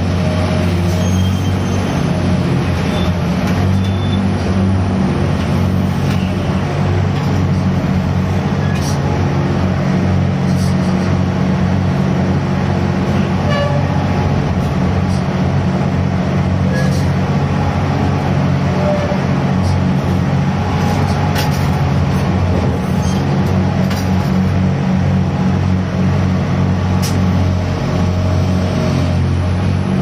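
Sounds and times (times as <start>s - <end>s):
ship diesel engine drone: 0.0s - 30.0s.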